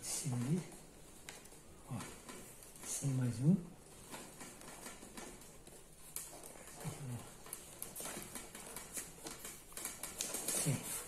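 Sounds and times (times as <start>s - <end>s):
paper tubes crackling and clicking: 0.0s - 11.0s.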